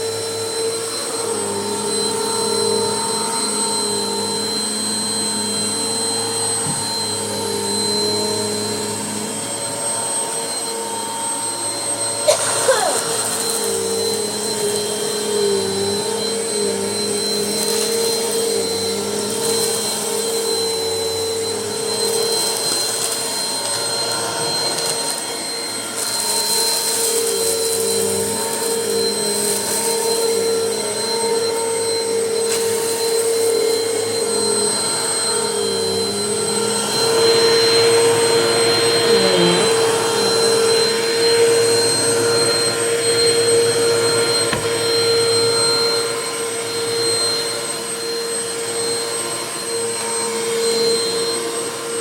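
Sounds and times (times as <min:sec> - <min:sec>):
vacuum cleaner whining: 0:00.0 - 0:52.0.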